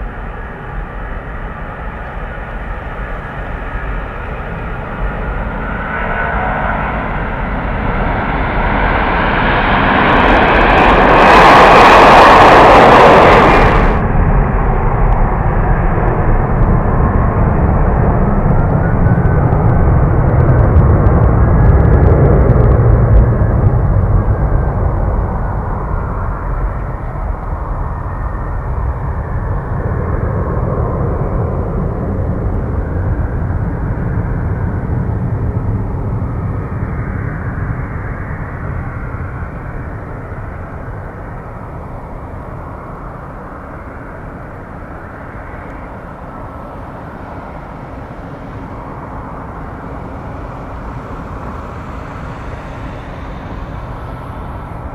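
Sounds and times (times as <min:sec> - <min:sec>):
gliding engine whine: 0:00.0 - 0:54.9
jet engines at take-off: 0:00.0 - 0:54.9.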